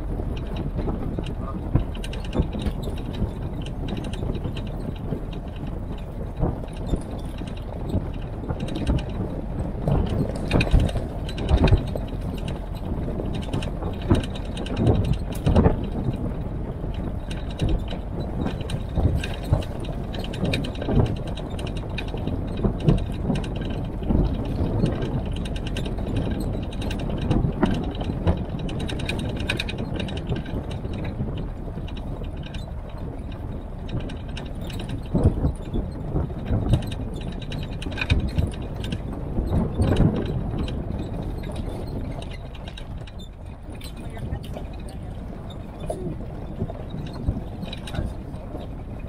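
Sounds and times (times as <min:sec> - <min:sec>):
jeep engine running: 0:00.0 - 0:49.0
knocks over bumps: 0:00.0 - 0:49.0
vehicle body rattling: 0:00.0 - 0:49.0.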